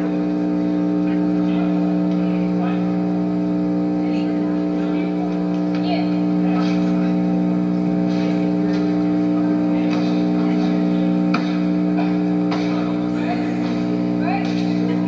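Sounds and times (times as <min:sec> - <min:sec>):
steady electrical buzz: 0:00.0 - 0:15.0.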